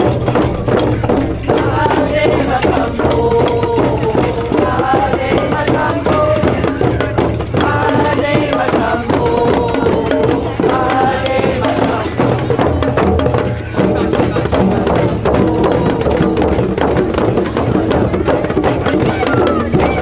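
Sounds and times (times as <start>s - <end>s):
drum circle beating: 0.0s - 20.0s
voices singing: 0.0s - 20.0s.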